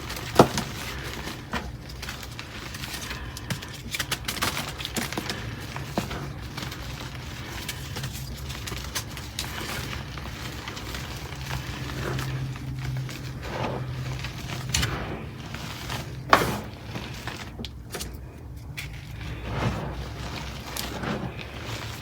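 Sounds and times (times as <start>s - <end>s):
chalk crunching and crackling: 0.0s - 22.0s
steady low hum: 0.0s - 22.0s.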